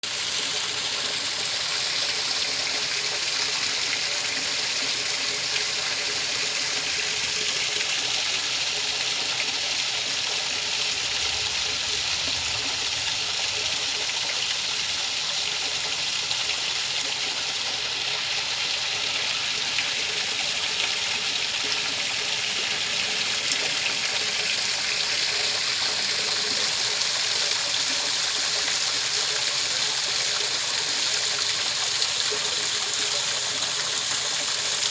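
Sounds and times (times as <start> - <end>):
rushing water hiss: 0.1 - 34.9.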